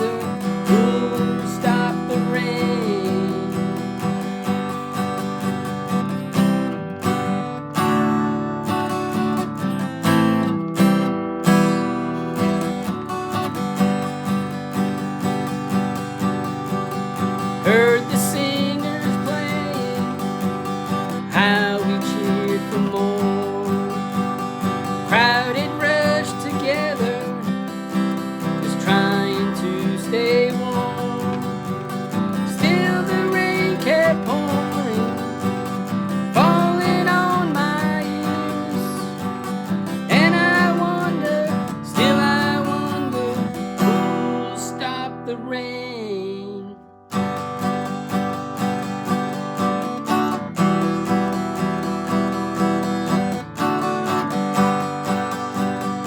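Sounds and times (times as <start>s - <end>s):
sliding melodic lead line: 0.0s - 46.3s
acoustic guitar strumming chords: 0.0s - 56.0s.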